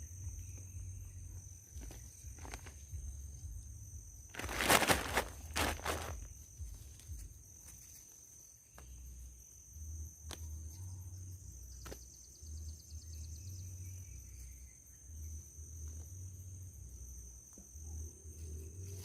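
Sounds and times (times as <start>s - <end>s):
crickets trilling: 0.0s - 19.0s
fast ticking insect trill: 0.0s - 19.0s.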